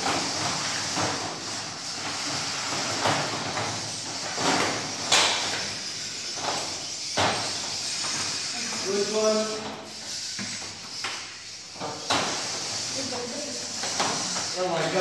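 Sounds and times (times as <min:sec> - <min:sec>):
robot motors whirring: 0:00.0 - 0:15.0.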